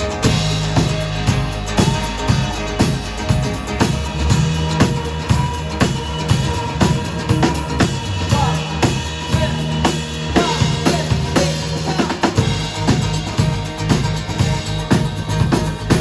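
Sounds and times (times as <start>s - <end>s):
bass notes: 0.0s - 16.0s
drum kit beat: 0.0s - 16.0s
rock band playing: 0.0s - 16.0s.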